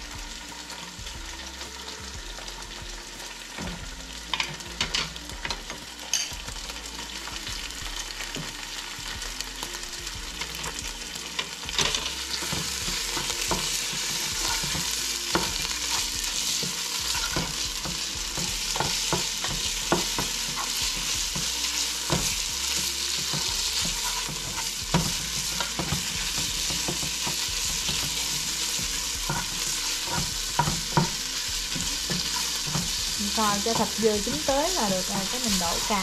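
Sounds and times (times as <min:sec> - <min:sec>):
meat sizzling in oil: 0:00.0 - 0:36.0.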